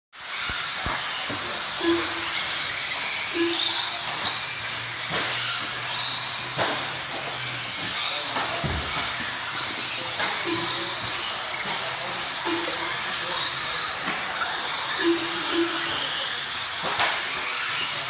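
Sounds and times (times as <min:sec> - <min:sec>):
rc car motors whining: 0:00.2 - 0:18.0.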